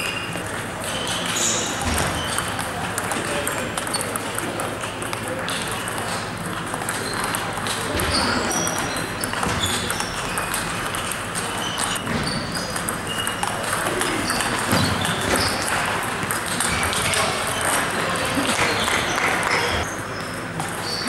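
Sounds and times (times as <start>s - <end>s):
table tennis balls clicking: 0.0s - 19.9s
murmur of voices: 0.0s - 21.0s.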